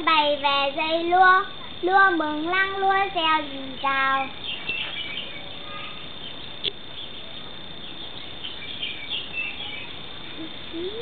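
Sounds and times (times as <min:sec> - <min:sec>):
high insect drone: 0:00.0 - 0:11.0
small birds chirping: 0:00.2 - 0:11.0.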